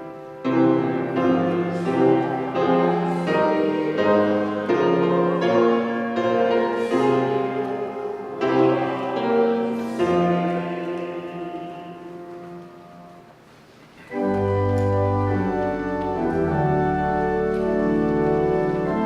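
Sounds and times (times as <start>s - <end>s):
keyboard playing slow chords: 0.0s - 13.4s, 14.0s - 19.0s.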